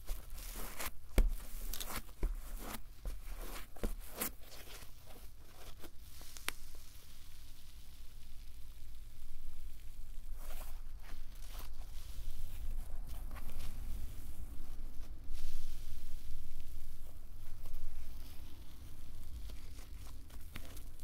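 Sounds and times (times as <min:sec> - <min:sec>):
slime crackling and squishing: 0:00.0 - 0:21.0.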